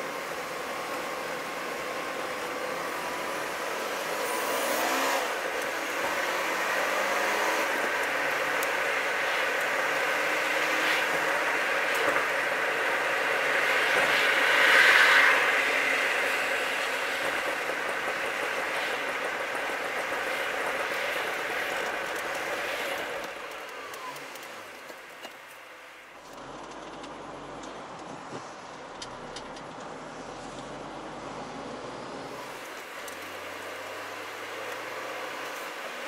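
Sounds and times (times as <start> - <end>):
car engine and tyre noise: 0.0 - 36.0.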